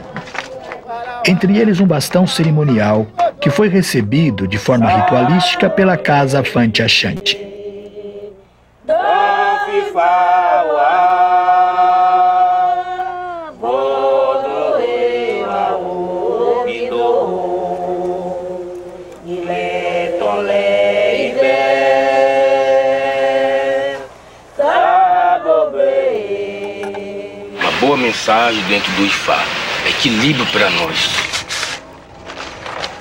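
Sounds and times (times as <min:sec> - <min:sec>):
unaccompanied sung chant: 0:02.4 - 0:30.8.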